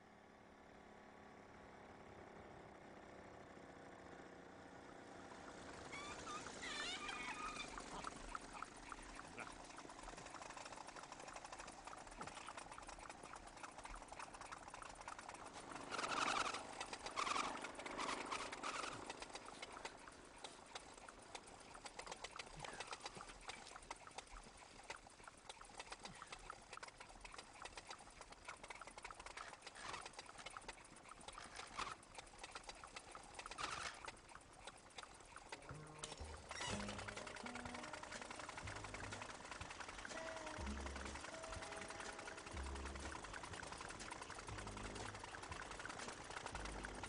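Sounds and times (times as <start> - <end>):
moped engine puttering: 4.8 - 47.0.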